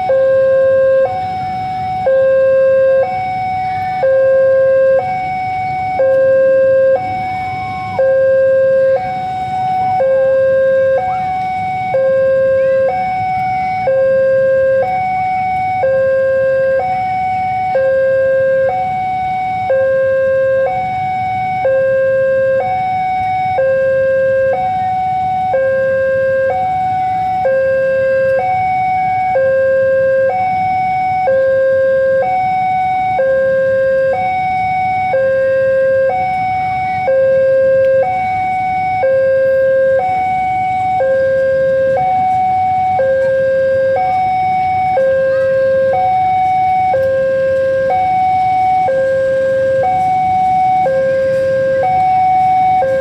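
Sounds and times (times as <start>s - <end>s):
level crossing two-tone alarm: 0.0s - 53.0s.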